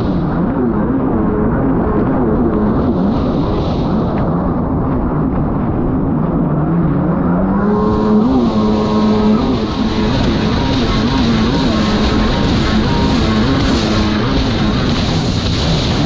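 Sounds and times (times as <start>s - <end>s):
snowmobile engines revving: 0.0s - 16.0s.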